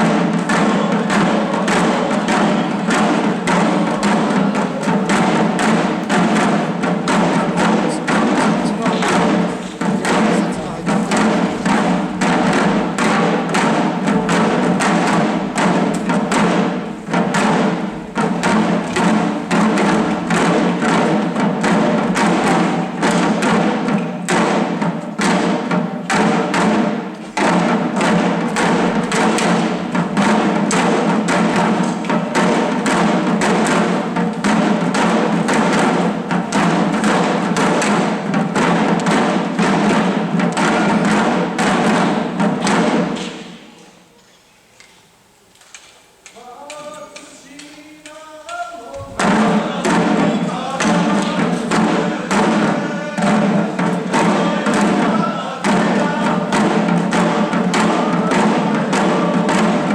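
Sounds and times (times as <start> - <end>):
small drums beaten fast: 0.0 - 44.1, 46.1 - 59.9.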